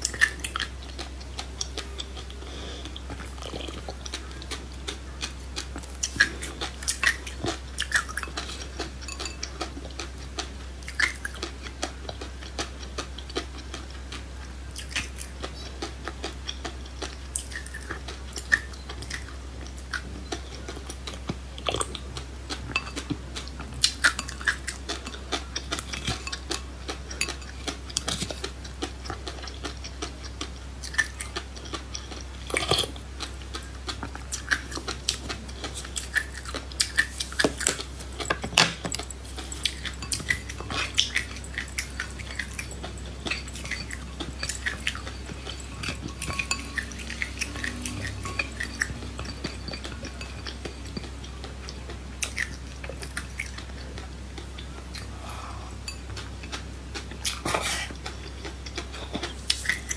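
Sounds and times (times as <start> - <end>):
chewing and crunching seeds: 0.0 - 59.9
steady low hum: 0.0 - 59.9.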